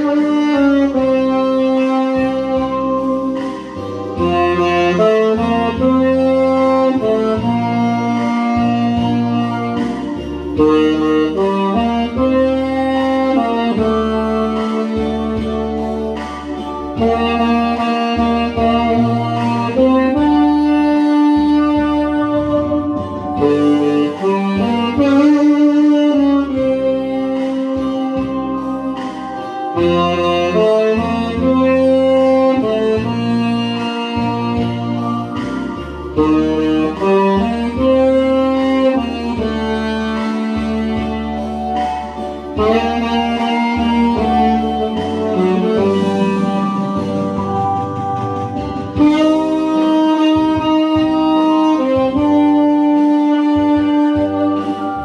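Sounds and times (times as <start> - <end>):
backing track with bass: 0.0 - 55.0
tenor saxophone ballad melody: 0.0 - 55.0.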